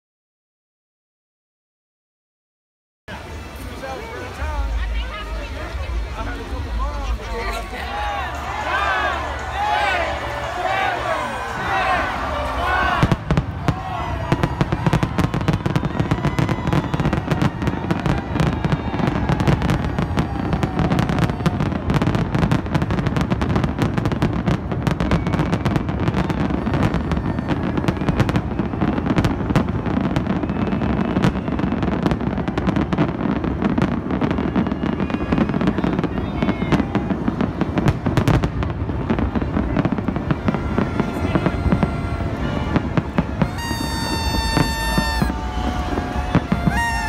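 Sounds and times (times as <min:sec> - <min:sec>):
fireworks bangs: 0:03.3 - 0:47.0.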